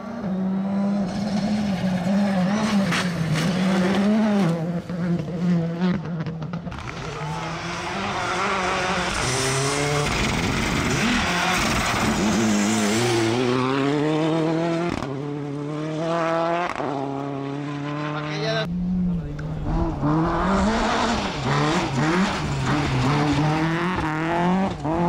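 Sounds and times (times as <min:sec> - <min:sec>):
rally car engines revving past: 0:00.0 - 0:25.0.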